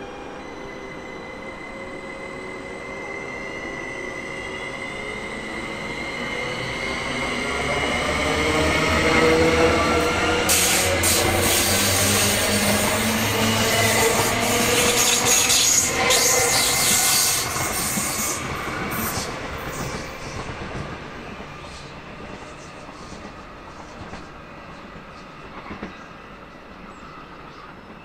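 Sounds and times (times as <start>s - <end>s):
train approaching: 0.0s - 28.0s.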